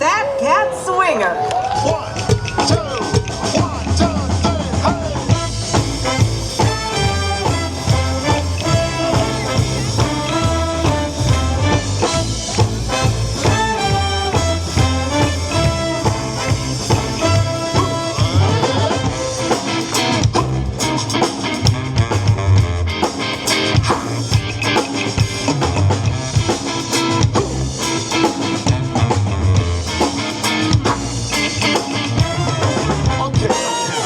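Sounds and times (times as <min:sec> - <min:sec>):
guitar: 0:01.4 - 0:34.0
drum kit: 0:01.7 - 0:34.0
swing band playing: 0:02.1 - 0:34.0.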